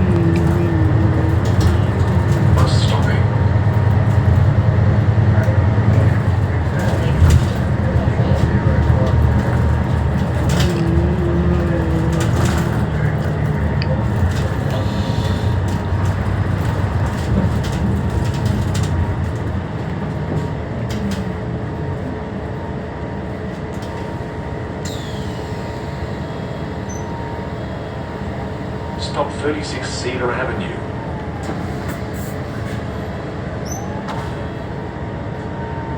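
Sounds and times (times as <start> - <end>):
bus diesel engine rumble: 0.0 - 35.9
road noise inside bus: 0.0 - 35.9.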